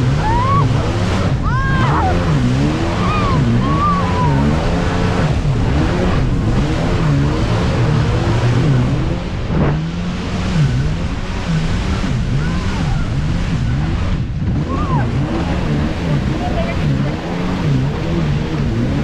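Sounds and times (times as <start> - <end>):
jet ski engine revving: 0.0 - 19.0.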